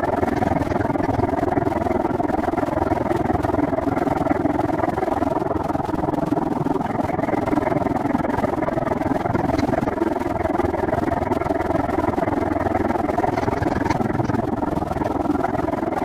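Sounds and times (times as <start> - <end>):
bicycle wind and rolling noise: 0.0 - 5.0, 6.1 - 16.0.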